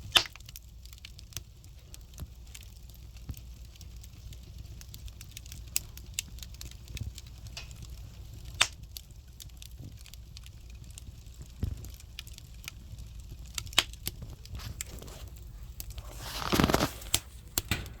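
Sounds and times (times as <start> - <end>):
firewood crackling and popping: 0.0 - 18.0
low fire rumble: 0.0 - 18.0.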